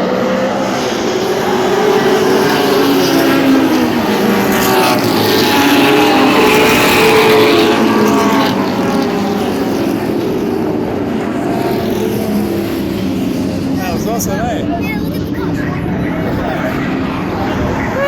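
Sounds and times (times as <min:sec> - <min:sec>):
racing car engines passing: 0:00.0 - 0:18.0.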